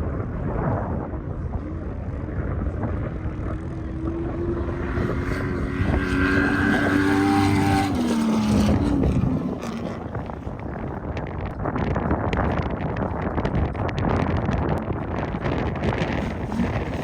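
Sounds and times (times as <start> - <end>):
wind buffeting microphone: 0.0 - 17.0
off-road vehicle engine running: 1.0 - 17.0.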